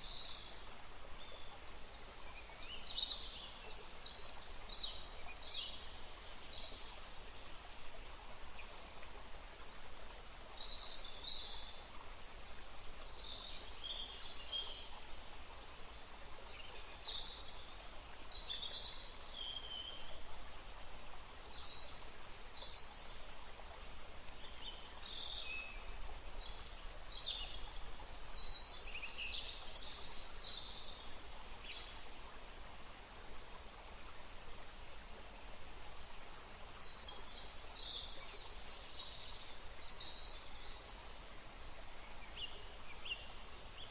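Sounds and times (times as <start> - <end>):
running water: 0.0 - 43.9
wind in trees: 0.0 - 43.9.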